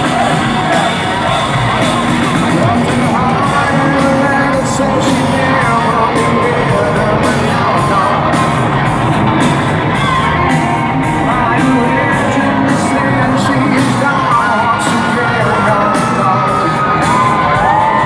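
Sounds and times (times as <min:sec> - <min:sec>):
bass guitar: 0:00.0 - 0:18.0
distorted electric guitars: 0:00.0 - 0:18.0
man singing lead vocal: 0:00.0 - 0:18.0
steady drum beat: 0:00.0 - 0:18.0.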